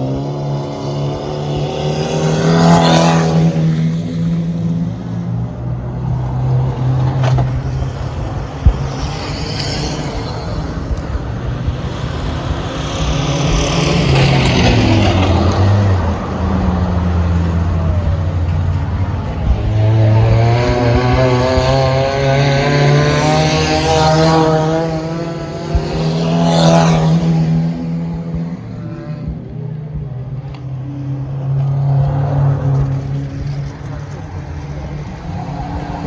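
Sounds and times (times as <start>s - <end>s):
racing car engines passing: 0.0s - 36.0s.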